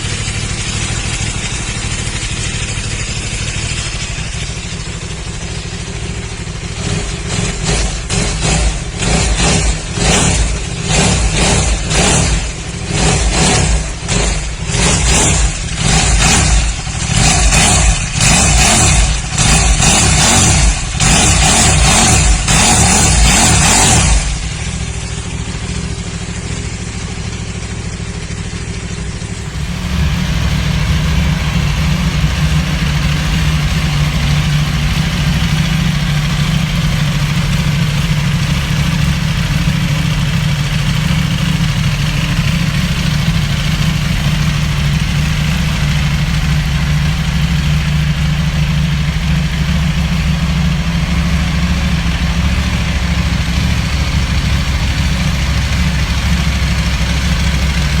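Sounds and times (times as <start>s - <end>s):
motorcycle engine idling: 0.0s - 58.0s
motorcycle engine revving: 0.0s - 58.0s.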